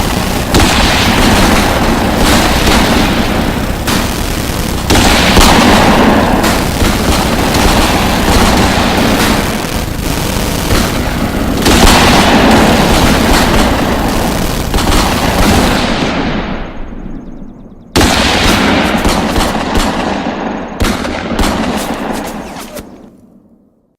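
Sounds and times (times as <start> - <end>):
rapid machine-gun fire: 0.0 - 17.2, 18.0 - 23.1.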